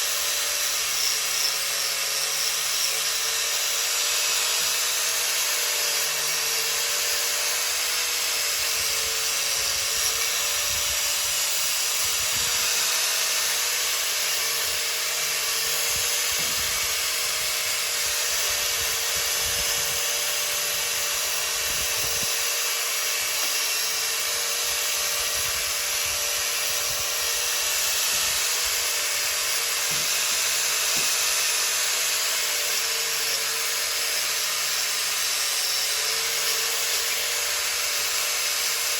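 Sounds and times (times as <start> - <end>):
power tool motor whine: 0.0 - 38.9.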